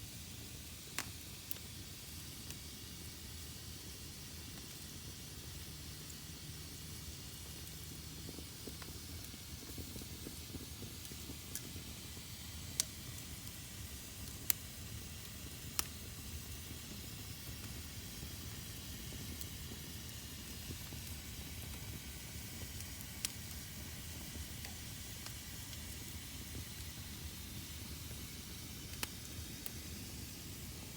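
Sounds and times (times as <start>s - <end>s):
fire burning in a fireplace: 0.0s - 30.9s
sharp crackling pops of fire: 0.1s - 30.9s.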